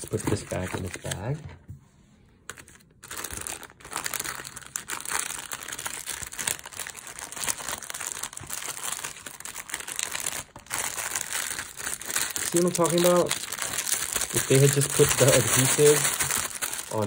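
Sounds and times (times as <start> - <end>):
cellophane bag crinkling: 2.5 - 17.0.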